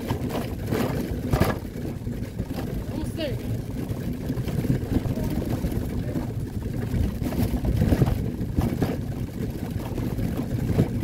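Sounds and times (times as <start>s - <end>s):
wagon wheels rumbling and rattling: 0.0s - 11.0s.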